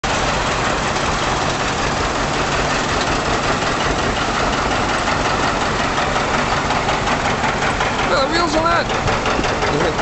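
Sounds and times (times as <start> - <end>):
tractor engines droning: 0.0 - 10.0.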